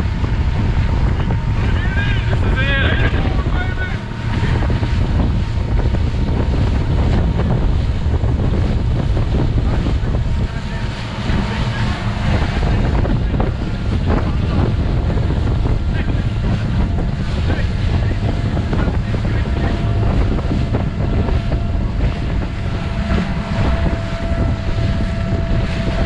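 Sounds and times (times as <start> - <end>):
boat engine low rumble: 0.0 - 26.0
wind buffeting microphone: 0.0 - 26.0.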